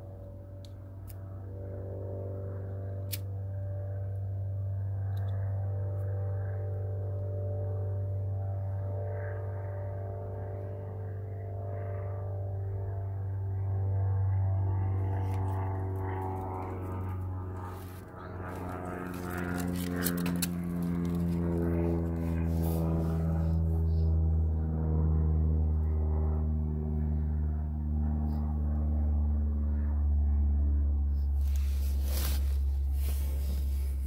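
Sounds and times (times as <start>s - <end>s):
airplane drone passing overhead: 0.0s - 34.0s.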